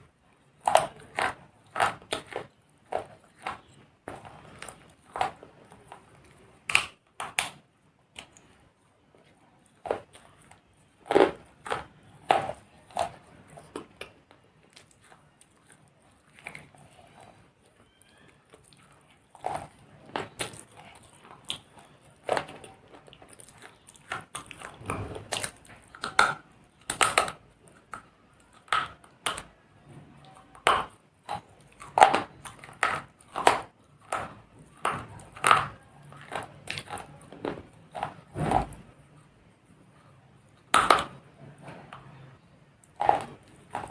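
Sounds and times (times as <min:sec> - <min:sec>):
teeth crunching clay pieces: 0:00.0 - 0:43.9.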